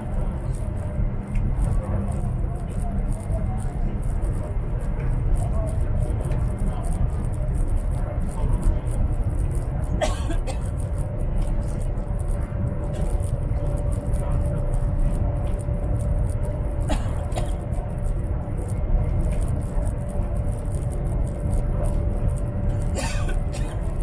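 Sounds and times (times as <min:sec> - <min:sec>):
thin steady hum: 0:00.0 - 0:24.0
train rumble inside carriage: 0:00.0 - 0:24.0.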